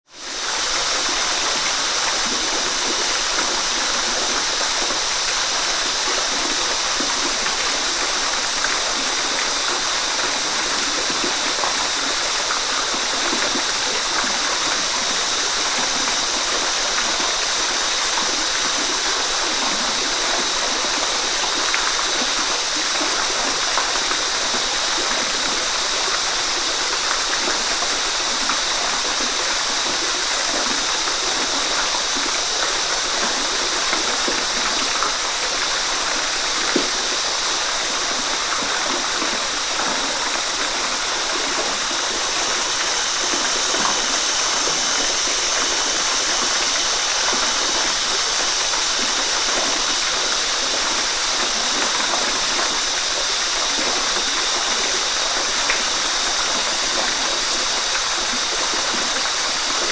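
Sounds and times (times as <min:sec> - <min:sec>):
waterfall rushing: 0:00.1 - 0:59.9.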